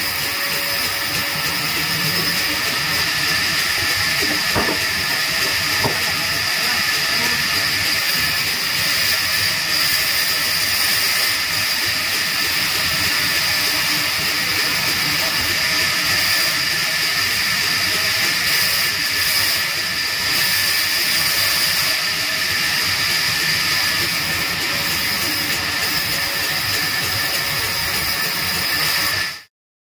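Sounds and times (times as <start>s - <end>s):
band saw cutting wood: 0.0s - 29.5s.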